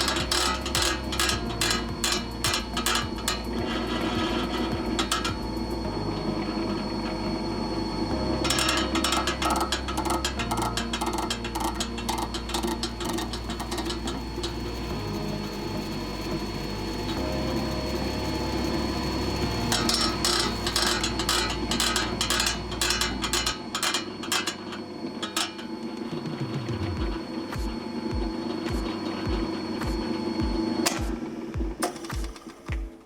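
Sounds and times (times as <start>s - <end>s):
low hum: 0.0s - 32.5s.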